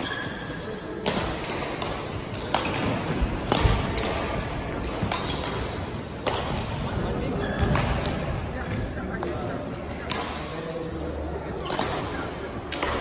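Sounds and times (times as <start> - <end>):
rackets hitting shuttlecock: 0.0 - 10.7, 11.4 - 13.0.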